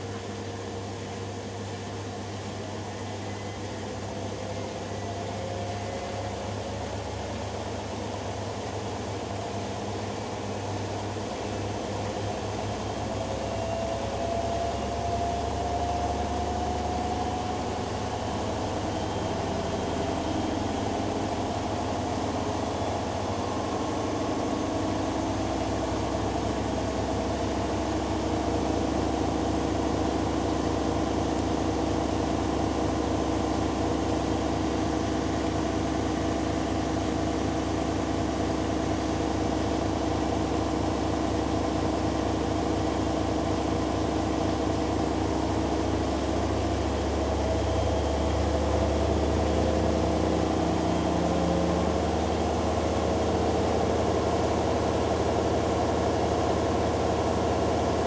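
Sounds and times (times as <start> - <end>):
washing machine spinning: 3.8 - 58.0.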